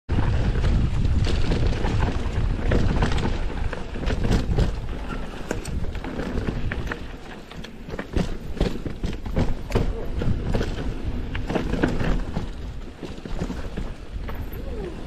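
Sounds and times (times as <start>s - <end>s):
bike rattling over bumps: 0.1s - 15.0s
bike tyres on dirt and rocks: 0.1s - 15.0s
wind rumble on microphone: 0.1s - 15.0s.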